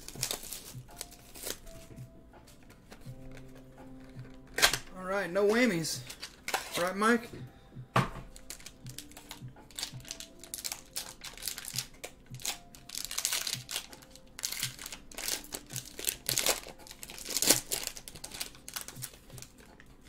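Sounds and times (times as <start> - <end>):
foil wrapper crinkling and tearing: 0.0 - 1.8, 3.2 - 7.0, 8.3 - 19.8.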